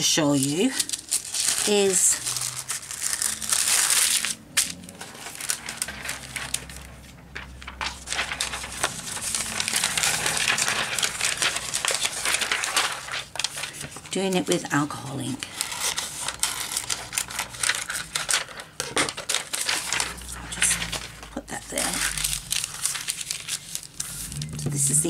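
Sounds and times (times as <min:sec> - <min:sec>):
paper crinkling and rustling: 0:00.0 - 0:25.0.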